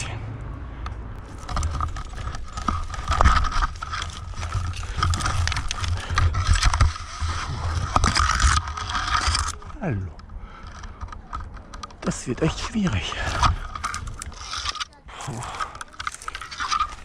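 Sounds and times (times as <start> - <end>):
carabiners clicking: 0.8 - 17.0
branches rustling: 1.1 - 17.0
rope through metal adjuster: 1.2 - 17.0.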